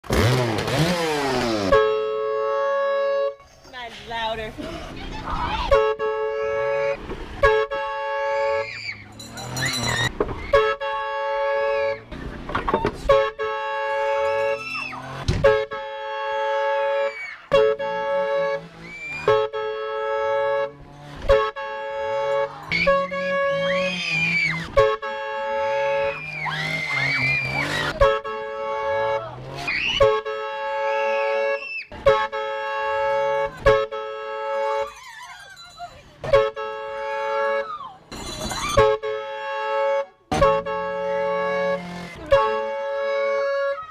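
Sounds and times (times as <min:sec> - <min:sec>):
train horn blasts: 0:00.2 - 0:03.5, 0:05.7 - 0:08.6, 0:09.2 - 0:12.0, 0:13.0 - 0:35.0, 0:36.3 - 0:37.8, 0:38.8 - 0:43.9.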